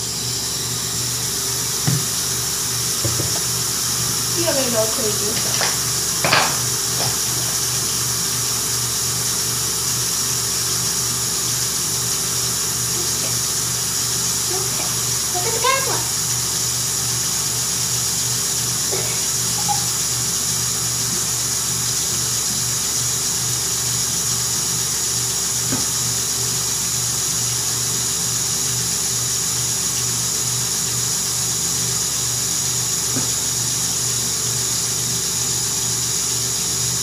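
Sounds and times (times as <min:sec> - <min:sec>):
tap water running into bath: 0:00.0 - 0:37.0.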